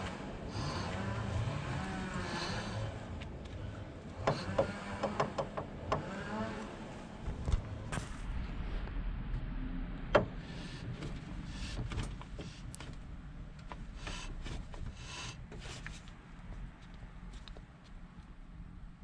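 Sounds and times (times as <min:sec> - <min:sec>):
car rumbling: 0:00.0 - 0:19.0.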